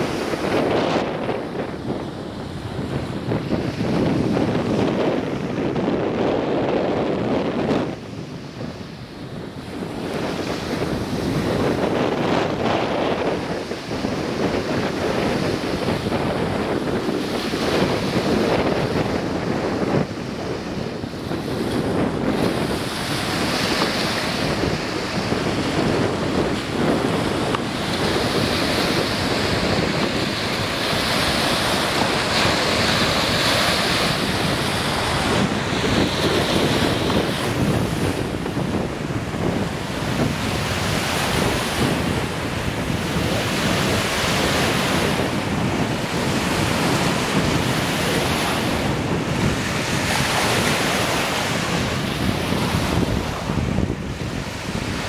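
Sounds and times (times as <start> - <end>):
small waves breaking on beach: 0.0 - 55.0
wind buffeting microphone: 0.0 - 55.0.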